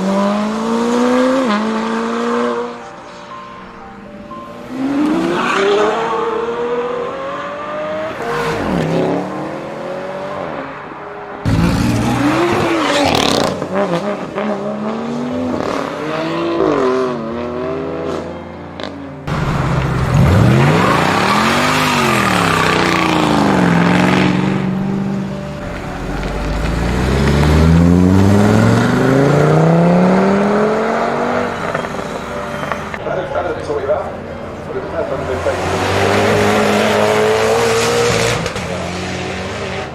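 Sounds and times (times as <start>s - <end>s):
car engines revving: 0.0s - 2.8s, 4.6s - 39.9s.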